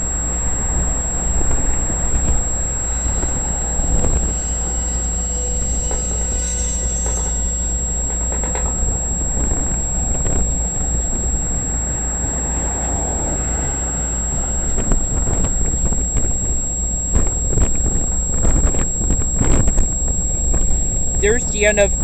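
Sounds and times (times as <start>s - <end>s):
freight train rumbling on rails: 0.0s - 22.0s
wind buffeting microphone: 0.0s - 22.0s.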